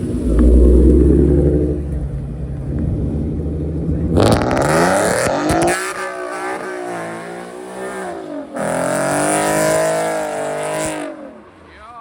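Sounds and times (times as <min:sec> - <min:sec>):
car engine revving hard: 0:00.0 - 0:11.5.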